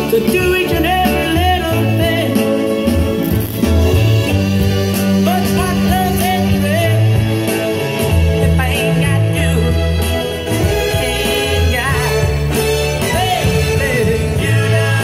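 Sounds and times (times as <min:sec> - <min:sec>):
rock music over loudspeakers: 0:00.0 - 0:15.0.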